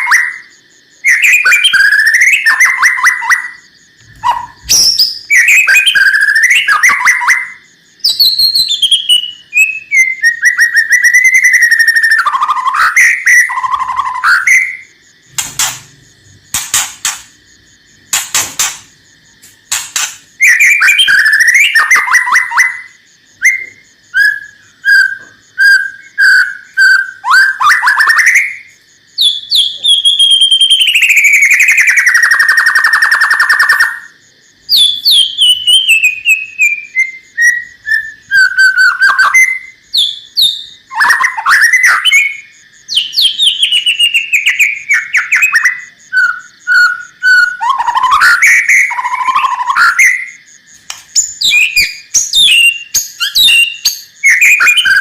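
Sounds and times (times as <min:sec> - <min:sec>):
songbird whistling song: 0:00.0 - 0:55.0.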